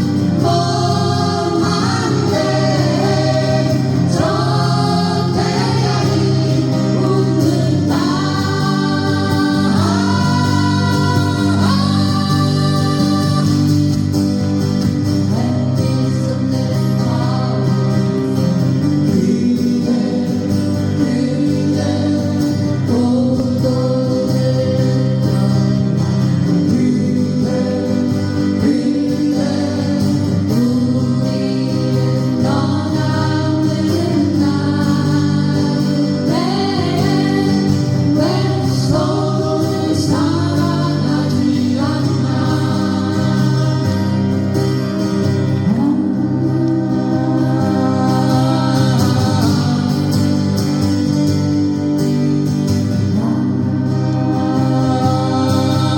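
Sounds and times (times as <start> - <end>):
person singing: 0.0 - 51.5, 53.0 - 55.9
acoustic guitar: 0.0 - 55.9.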